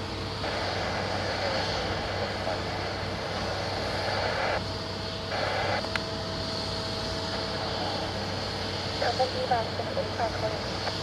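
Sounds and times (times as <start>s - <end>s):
jet engine noise: 0.0s - 11.0s
radio hiss: 0.3s - 11.0s.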